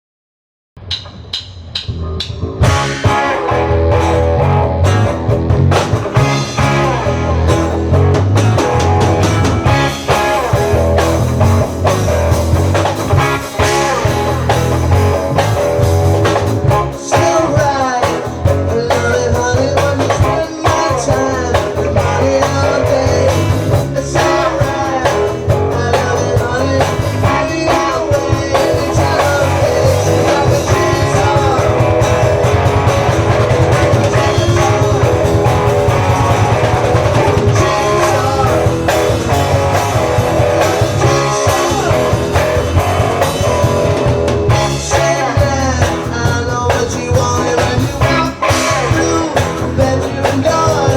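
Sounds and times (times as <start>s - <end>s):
bass guitar: 0.8s - 50.9s
drum kit: 0.8s - 50.9s
electric guitar: 1.8s - 50.9s.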